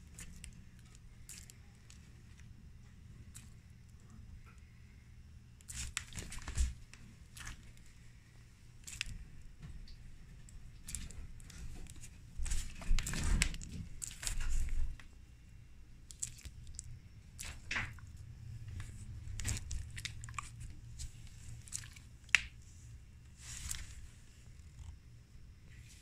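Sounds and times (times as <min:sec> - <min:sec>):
iguana eating wet smacks: 0:00.0 - 0:02.5, 0:05.6 - 0:15.1, 0:16.0 - 0:25.0.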